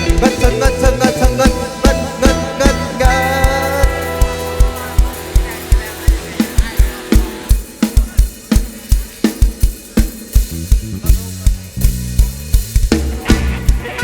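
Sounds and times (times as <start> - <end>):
drum kit playing steady beat: 0.0 - 14.0.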